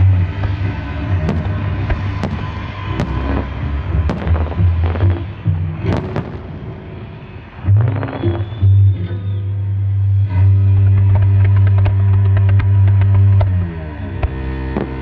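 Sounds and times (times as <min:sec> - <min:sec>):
bass-heavy music: 0:00.0 - 0:15.0.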